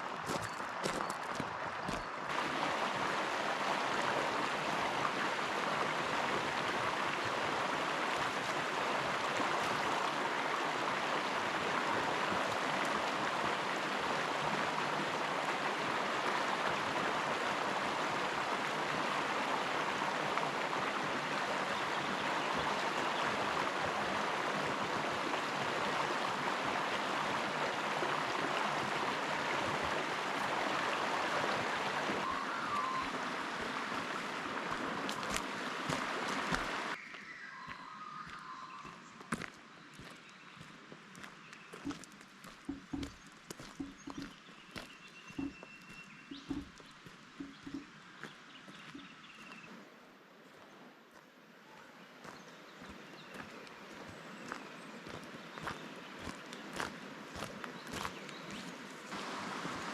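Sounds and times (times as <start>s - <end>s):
river water rushing: 0.0s - 37.0s, 41.8s - 44.6s, 45.3s - 49.8s, 55.2s - 59.9s.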